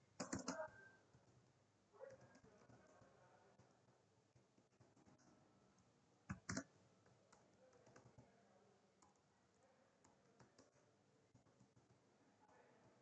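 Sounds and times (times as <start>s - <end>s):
keyboard typing: 0.0s - 8.4s, 9.0s - 12.1s.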